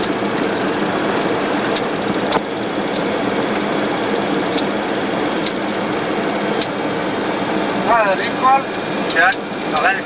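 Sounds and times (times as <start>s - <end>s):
airflow and jet engines rushing: 0.0s - 10.0s.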